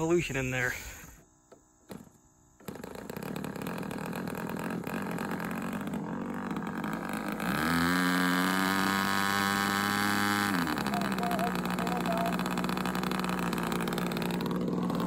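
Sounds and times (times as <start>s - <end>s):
model airplane engine running: 2.6s - 15.0s.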